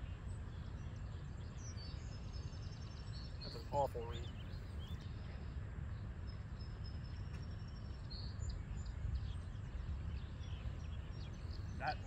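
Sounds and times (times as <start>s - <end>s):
bird chirp: 0.0s - 12.0s
low wind rumble: 0.0s - 12.0s.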